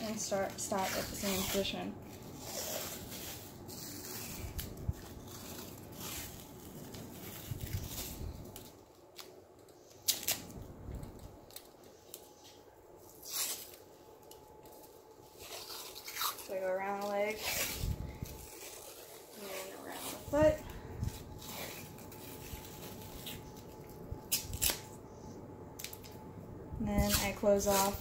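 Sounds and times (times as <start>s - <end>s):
rustling of tape and hands: 0.0s - 28.0s
tape peeling rips: 0.4s - 25.0s, 25.8s - 26.2s, 27.0s - 28.0s.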